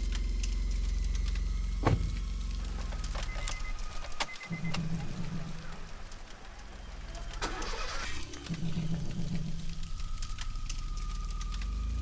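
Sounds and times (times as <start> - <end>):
car engine starting and running: 0.0 - 12.0.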